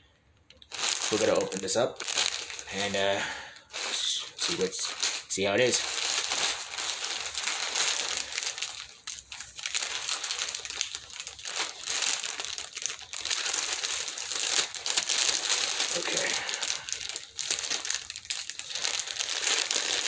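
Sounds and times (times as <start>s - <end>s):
plastic packaging crinkling: 0.5s - 20.0s.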